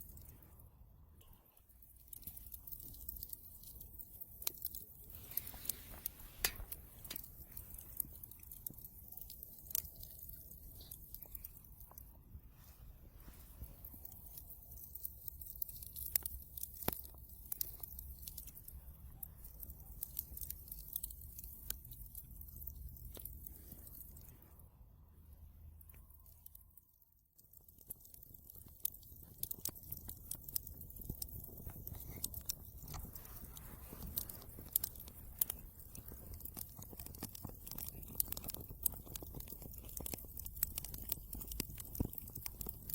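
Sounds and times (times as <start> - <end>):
wood fire crackling: 0.0 - 24.7, 25.3 - 42.9.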